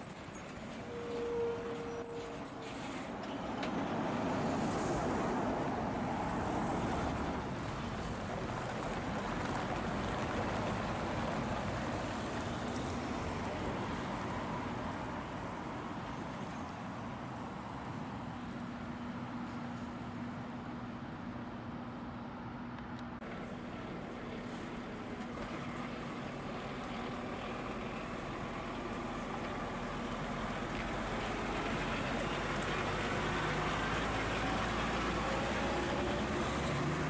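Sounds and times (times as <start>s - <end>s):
road noise: 0.0s - 37.0s.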